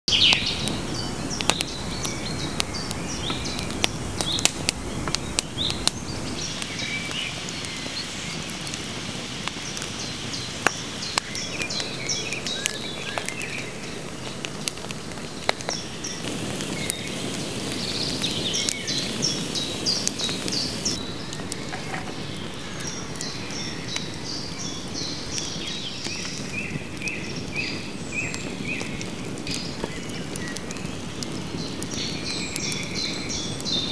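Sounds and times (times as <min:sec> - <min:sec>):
birds singing: 0:00.1 - 0:33.9
wood fire crackling and popping: 0:00.1 - 0:33.9.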